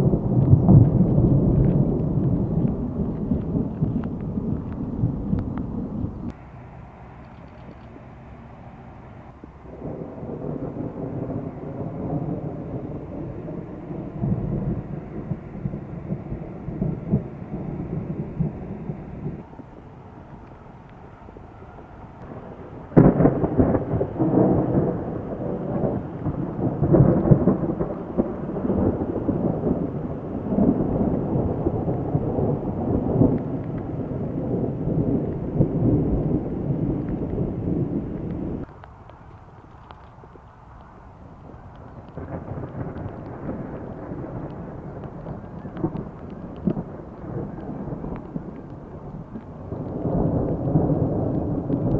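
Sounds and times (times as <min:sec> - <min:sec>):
sharp thunderclap: 0:00.0 - 0:06.4, 0:09.6 - 0:19.5, 0:22.2 - 0:38.7, 0:41.8 - 0:51.9
thunder rumbling: 0:00.0 - 0:51.9.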